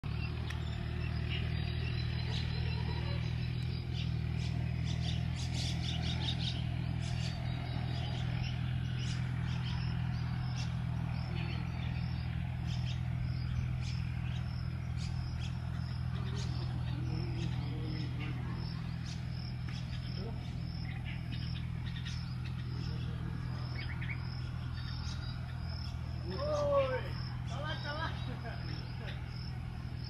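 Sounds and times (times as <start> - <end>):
bird chirping and twittering: 0.0 - 30.0
steady low hum: 0.0 - 30.0.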